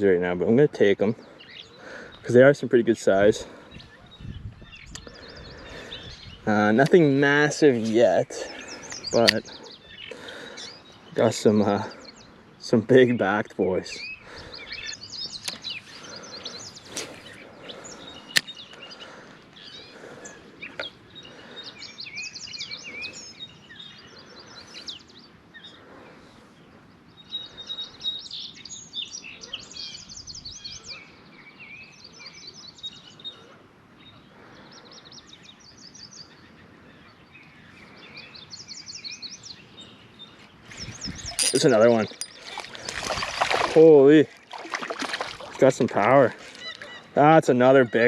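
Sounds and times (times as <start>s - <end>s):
faint outdoor background: 0.0s - 48.0s
songbirds chirping and trilling: 0.0s - 48.0s.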